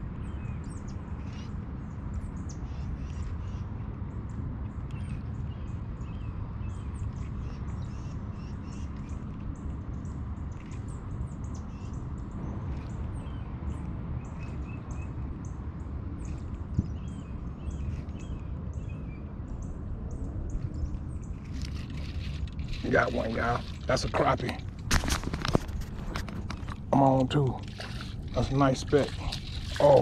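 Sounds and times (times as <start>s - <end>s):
birds chirping: 0.0s - 30.0s
steady low rumble: 0.0s - 30.0s.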